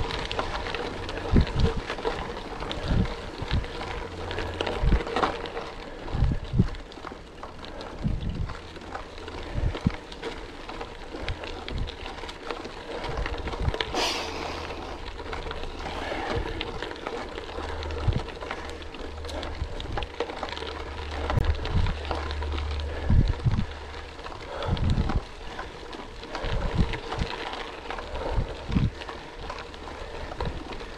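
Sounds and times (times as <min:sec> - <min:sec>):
bike tyres crunching on gravel: 0:00.0 - 0:30.9
wind rumble on microphone: 0:00.0 - 0:30.9.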